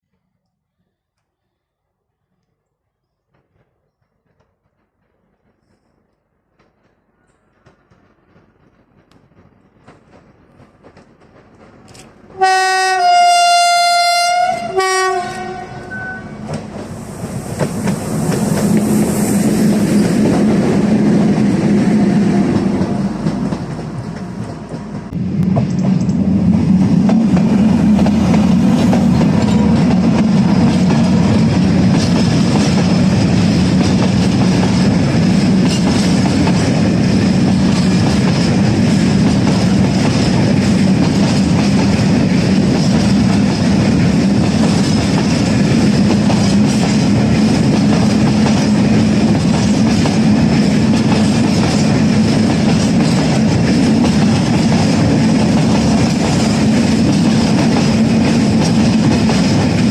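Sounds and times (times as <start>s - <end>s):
train wheels clacking on rails: 3.3s - 12.8s, 14.9s - 59.9s.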